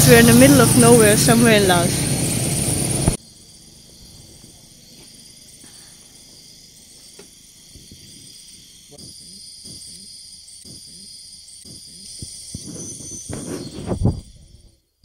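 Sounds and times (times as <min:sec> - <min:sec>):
loud vehicle engine running: 0:00.0 - 0:13.4
night insects chirring: 0:00.0 - 0:15.0.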